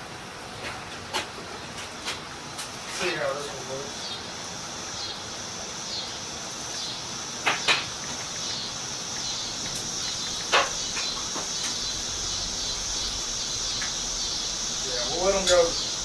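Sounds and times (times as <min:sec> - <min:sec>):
crickets chirring: 0:02.0 - 0:16.0.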